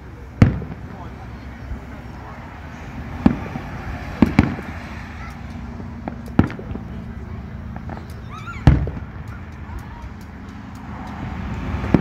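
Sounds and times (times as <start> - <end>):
firework shells booming: 0.2 - 1.6, 2.9 - 12.0
firework pops and crackles: 0.4 - 1.2, 3.2 - 12.0.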